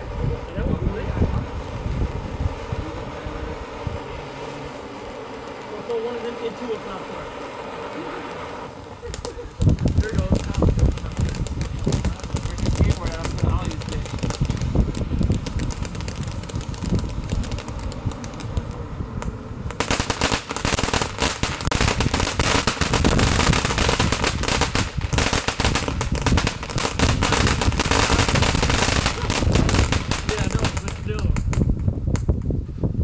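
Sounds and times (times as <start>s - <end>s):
ground fireworks crackling: 0.0s - 33.0s.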